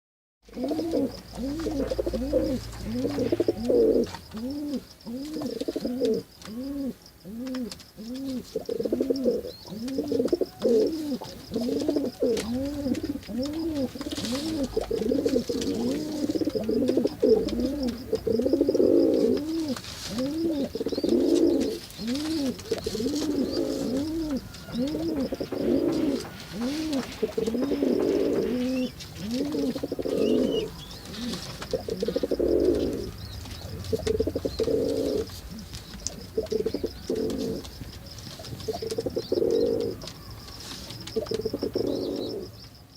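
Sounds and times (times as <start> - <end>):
pigeons cooing: 0.5 - 42.6.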